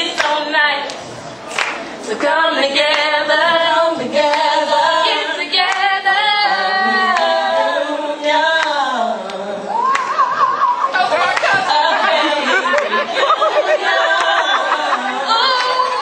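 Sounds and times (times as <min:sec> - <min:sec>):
women singing together: 0:00.0 - 0:16.0.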